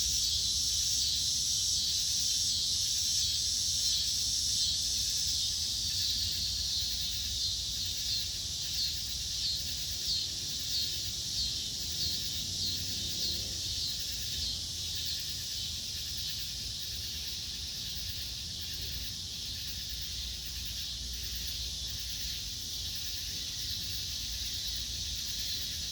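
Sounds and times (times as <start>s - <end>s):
insects buzzing: 0.0s - 25.9s
pulsing insect call: 0.0s - 25.9s.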